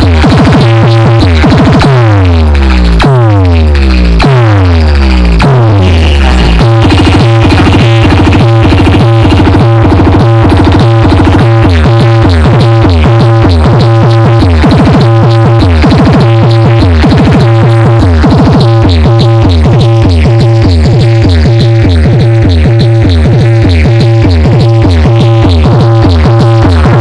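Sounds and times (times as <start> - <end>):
electronic dance music: 0.0 - 27.0.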